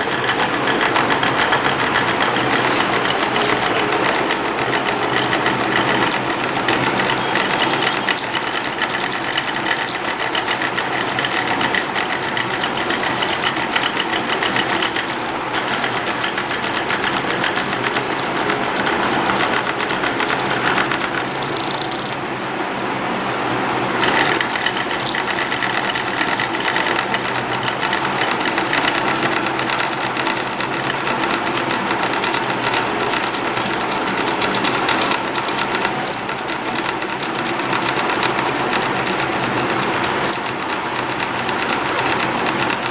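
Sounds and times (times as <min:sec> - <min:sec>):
stepper motors buzzing and ticking: 0:00.0 - 0:42.9.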